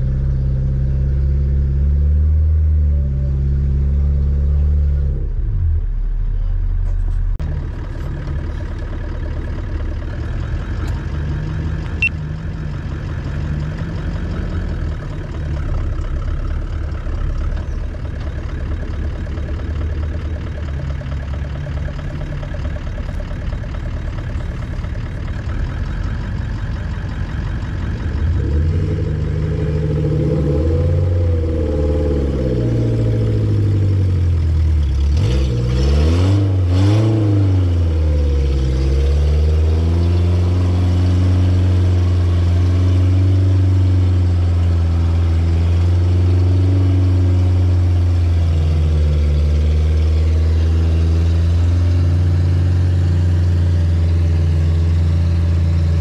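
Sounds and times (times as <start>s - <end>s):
engine idling and revving: 0.0s - 56.0s.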